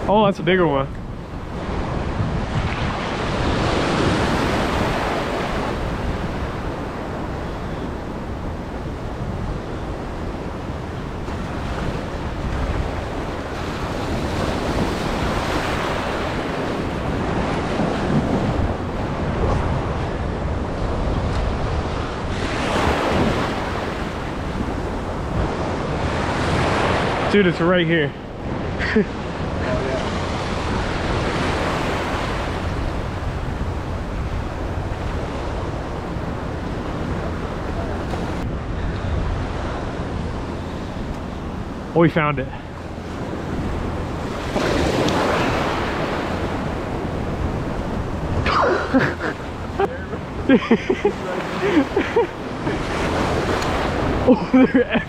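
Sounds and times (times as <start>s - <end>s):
surf washing in at shore: 0.0s - 55.0s
wind buffeting microphone: 0.0s - 55.0s.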